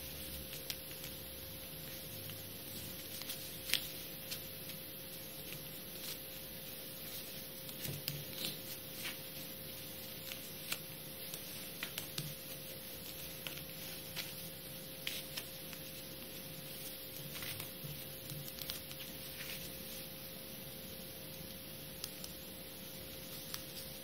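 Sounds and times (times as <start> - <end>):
steady hum and hiss: 0.0 - 24.0
paper folding crinkles and taps: 0.1 - 1.2, 1.8 - 4.8, 5.4 - 20.1, 23.1 - 24.0.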